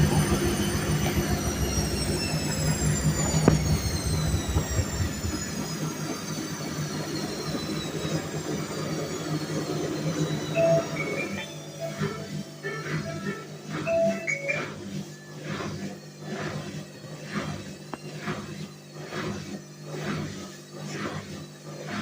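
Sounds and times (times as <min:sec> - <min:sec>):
washing machine spinning down: 0:00.0 - 0:22.0.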